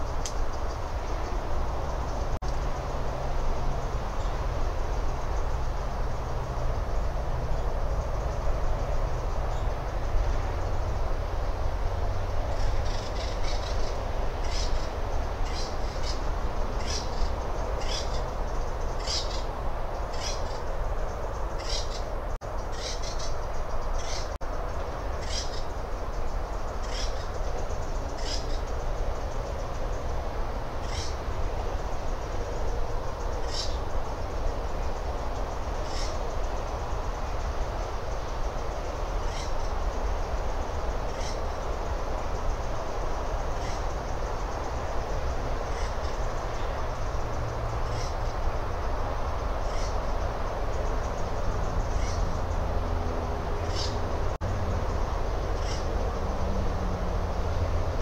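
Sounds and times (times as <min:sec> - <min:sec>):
low rumble and hiss: 0:00.0 - 0:58.0.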